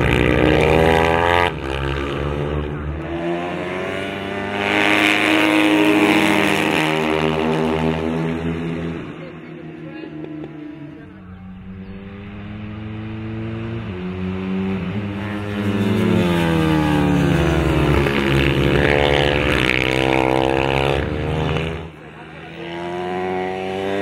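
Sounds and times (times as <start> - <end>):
motorcycle engines at high revs: 0.0 - 24.0.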